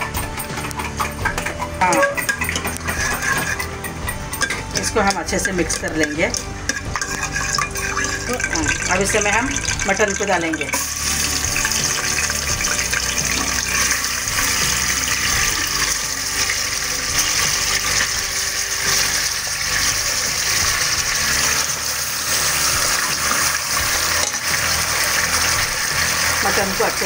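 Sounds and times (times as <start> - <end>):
meat sizzling in hot oil: 1.2 - 27.0.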